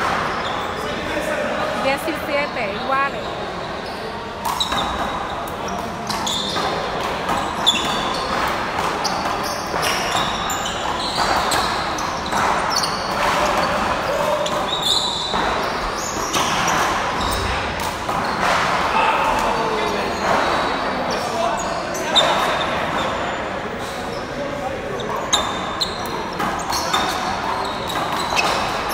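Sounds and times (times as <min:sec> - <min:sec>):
sneaker squeaks on court: 0:00.0 - 0:00.9, 0:01.9 - 0:23.4, 0:24.1 - 0:28.9.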